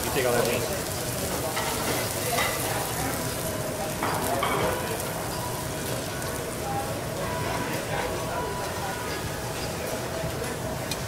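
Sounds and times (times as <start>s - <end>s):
vegetables sizzling on a griddle: 0.0s - 11.0s.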